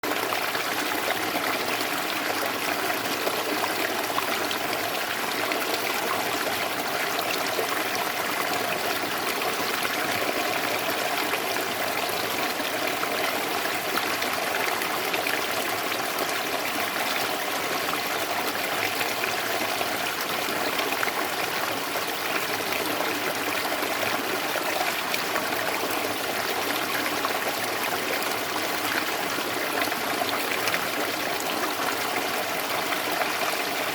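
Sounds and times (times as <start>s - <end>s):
water trickling and babbling: 0.0s - 33.9s.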